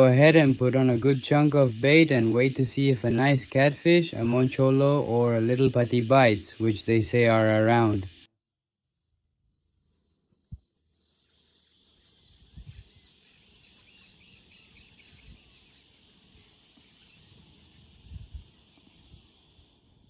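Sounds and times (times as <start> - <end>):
bird chirps: 0.0 - 8.3, 10.1 - 20.0
high-pitched insect hum: 0.0 - 8.3, 9.9 - 20.0.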